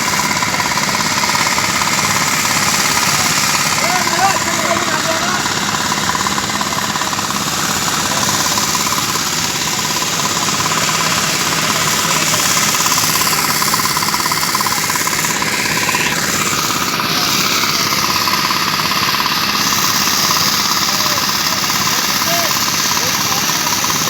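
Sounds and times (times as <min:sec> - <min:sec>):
machinery engine under load: 0:00.0 - 0:24.0
rapid knocking rattle: 0:00.0 - 0:24.0.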